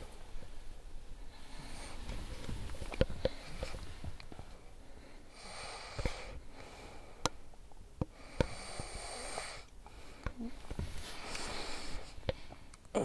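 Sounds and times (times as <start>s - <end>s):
man breathing noisily: 1.2s - 12.8s.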